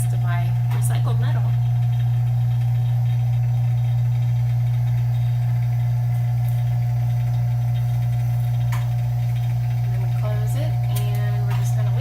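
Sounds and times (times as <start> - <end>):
furnace electrical hum: 0.0 - 12.0.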